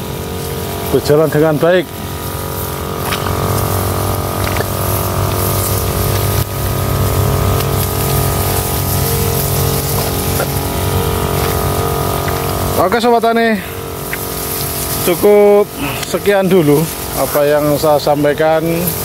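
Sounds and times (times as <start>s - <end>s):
power sprayer engine running: 0.0s - 19.0s
spray hissing: 0.0s - 19.0s.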